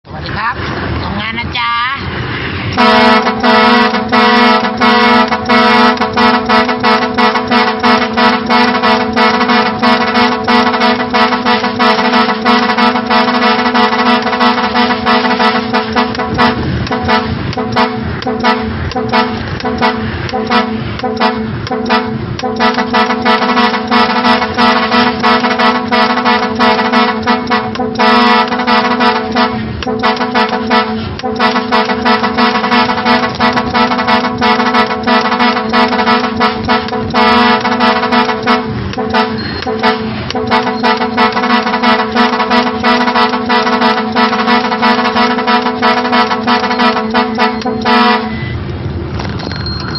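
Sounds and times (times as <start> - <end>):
air horn chord with rapid stutters: 2.7 - 48.5.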